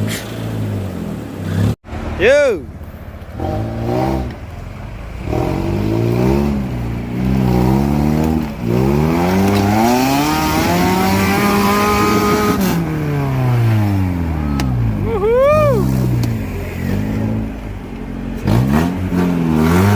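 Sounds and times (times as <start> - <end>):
off-road engine revving: 0.0 - 19.9.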